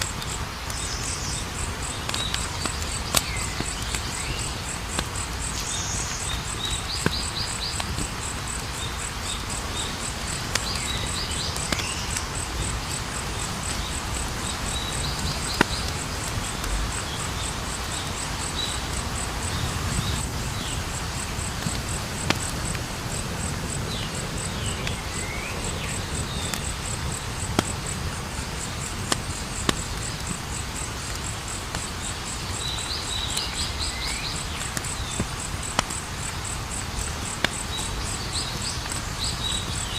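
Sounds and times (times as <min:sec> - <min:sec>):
campfire crackling and popping: 0:00.0 - 0:39.9
crickets trilling: 0:00.0 - 0:39.9.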